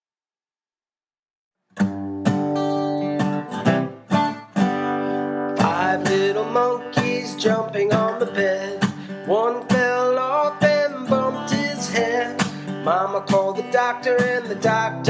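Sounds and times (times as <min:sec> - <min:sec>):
strummed acoustic guitar chords: 0:01.8 - 0:15.0.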